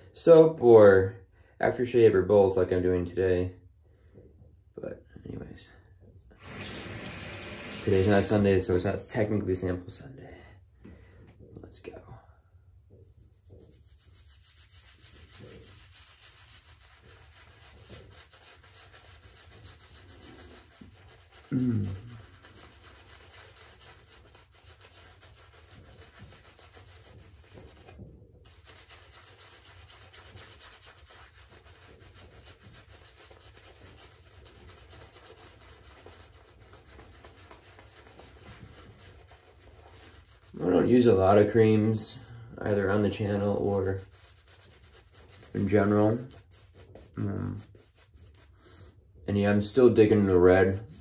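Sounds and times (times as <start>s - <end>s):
shaving brush rubbing lather: 6.4s - 9.3s, 12.9s - 51.0s.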